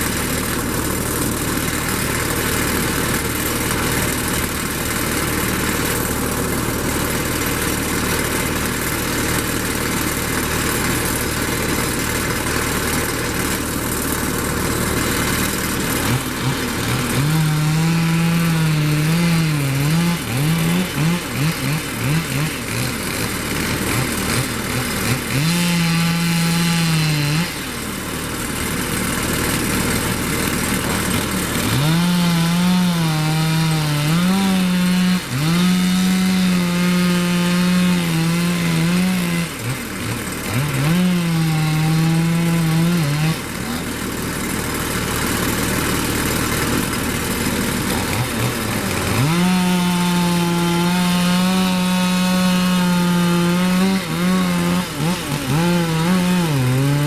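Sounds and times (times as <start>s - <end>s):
chainsaw revving: 0.0s - 57.0s
engine idling: 0.0s - 57.0s.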